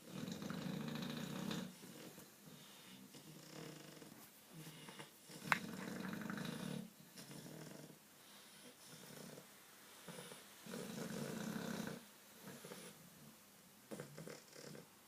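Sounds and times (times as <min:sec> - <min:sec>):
dog snoring: 0:00.0 - 0:13.0, 0:13.9 - 0:14.9.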